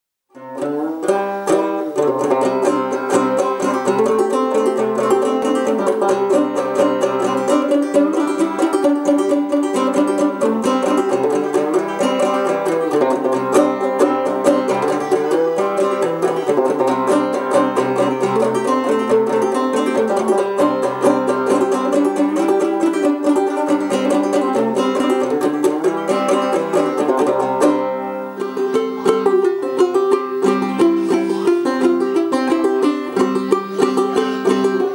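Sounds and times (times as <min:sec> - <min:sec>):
fretless banjo playing rhythmic tune: 0:00.3 - 0:34.9.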